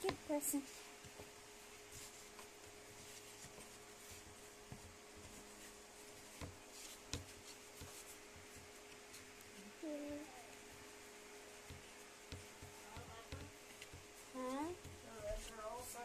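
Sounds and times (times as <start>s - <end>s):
faint steady hum: 0.0s - 16.0s
hands kneading dough on board: 0.0s - 16.0s.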